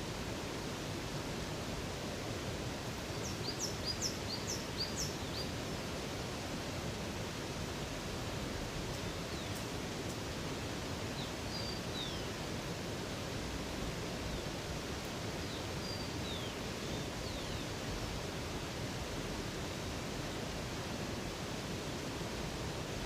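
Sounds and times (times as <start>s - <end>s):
flowing water rushing: 0.0s - 23.0s.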